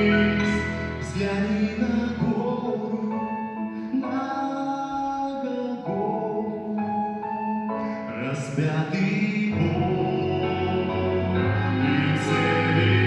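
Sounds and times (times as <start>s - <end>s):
slow hymn music: 0.0s - 13.0s.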